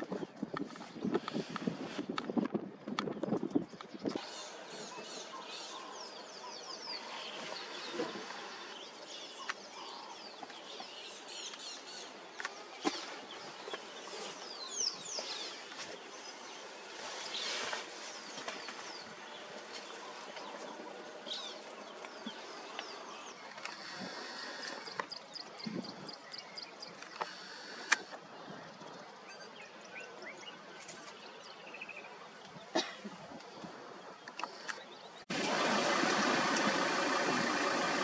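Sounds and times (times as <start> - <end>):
birds chirping: 3.0 - 38.0.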